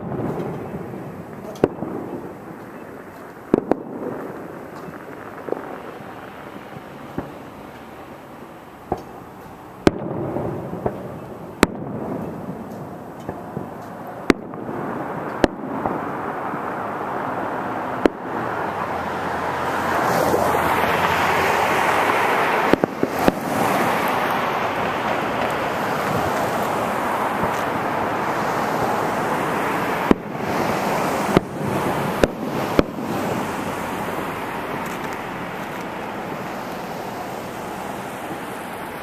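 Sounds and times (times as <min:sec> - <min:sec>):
fireworks bangs: 0:00.0 - 0:39.0
steady rushing noise: 0:00.0 - 0:39.0.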